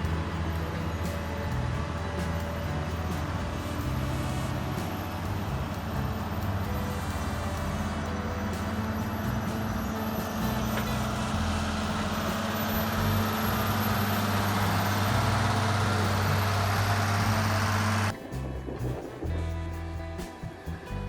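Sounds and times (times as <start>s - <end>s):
heavy truck engine running: 0.0s - 20.2s.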